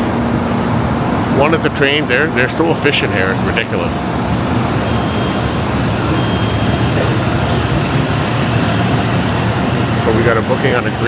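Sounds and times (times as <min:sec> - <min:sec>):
train rumble and hiss: 0:00.0 - 0:11.0.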